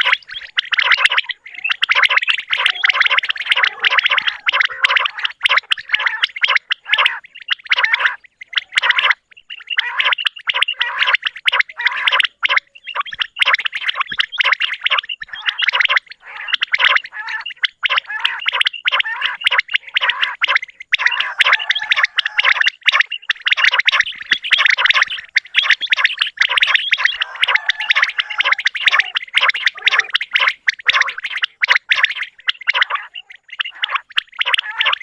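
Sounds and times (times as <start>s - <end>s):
quails chattering: 0.0s - 35.0s.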